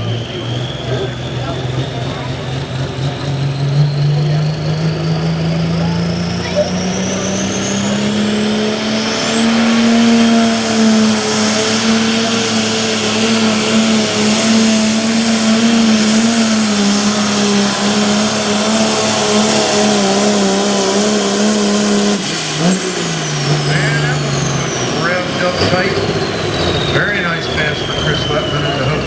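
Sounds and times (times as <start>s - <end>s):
tractor diesel engine at full throttle: 0.0s - 29.0s.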